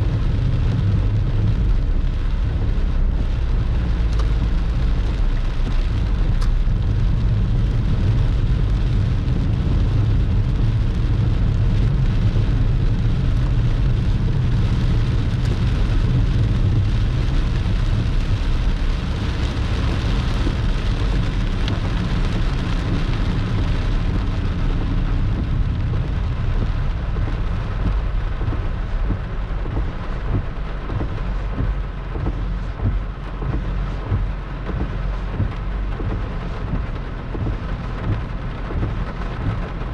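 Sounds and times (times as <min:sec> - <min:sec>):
deep low rumble: 0:00.0 - 0:39.9
torrential rain pouring: 0:00.0 - 0:39.9.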